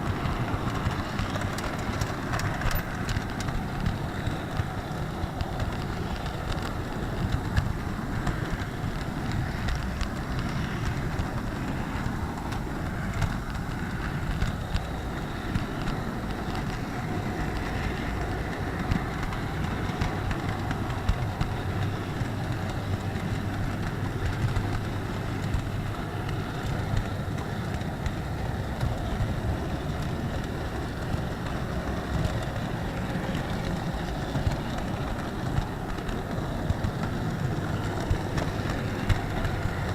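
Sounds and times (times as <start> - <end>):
model train wheels rumbling: 0.0 - 39.9.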